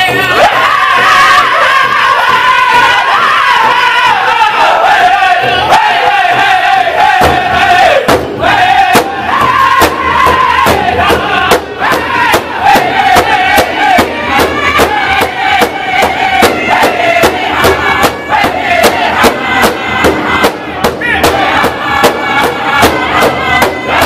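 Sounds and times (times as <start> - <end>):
large drum beaten steadily: 0.0 - 24.0
men singing in high voices: 0.0 - 24.0.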